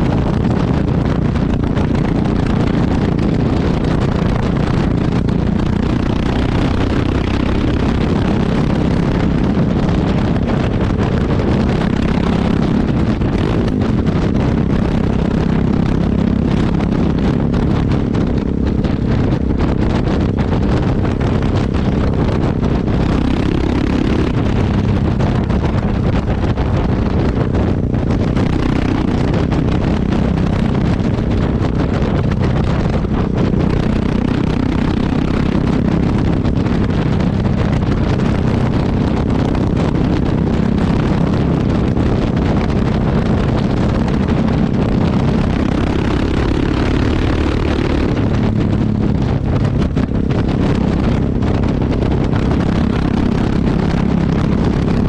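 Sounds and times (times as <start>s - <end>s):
motorcycle exhaust running: 0.0s - 55.0s
wind buffeting microphone: 0.0s - 55.0s.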